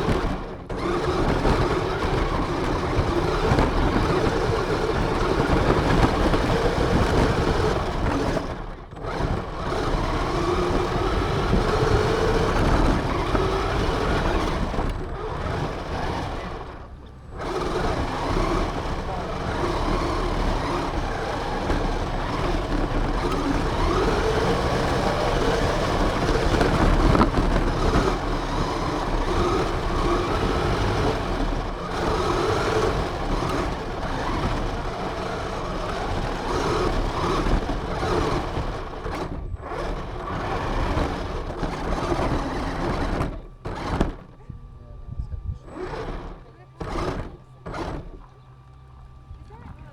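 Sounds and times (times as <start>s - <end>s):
heavy rumble and rushing noise: 0.0s - 48.3s
toy car drivetrain whine: 0.0s - 49.9s.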